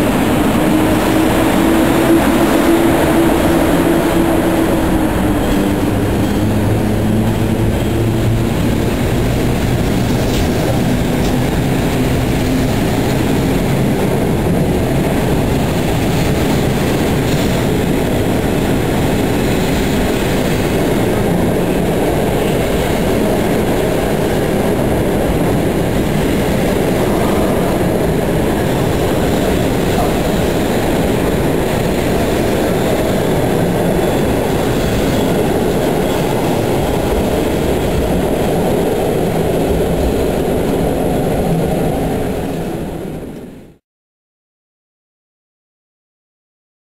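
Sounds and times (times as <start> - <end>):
train wheels on rail: 0.0 - 43.8.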